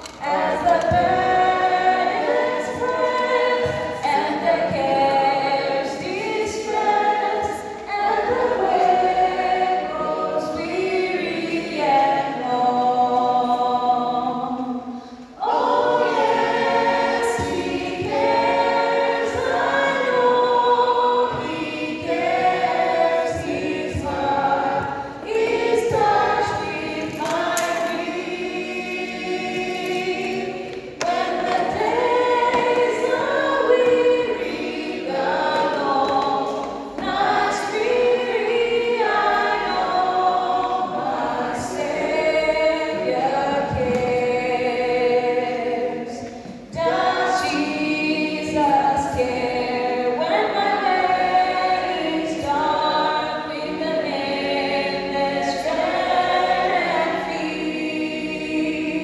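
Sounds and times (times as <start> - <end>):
women singing a hymn: 0.0 - 59.0.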